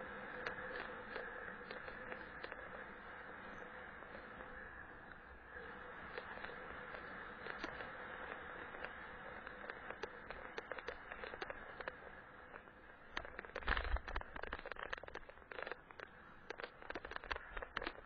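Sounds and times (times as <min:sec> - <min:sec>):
bicycle tyres on snow: 0:00.0 - 0:18.0
wind: 0:00.0 - 0:18.0.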